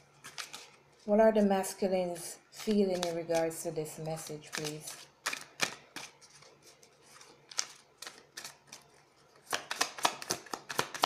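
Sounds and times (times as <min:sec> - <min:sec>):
cards being shuffled: 0:00.2 - 0:01.1, 0:02.1 - 0:11.0.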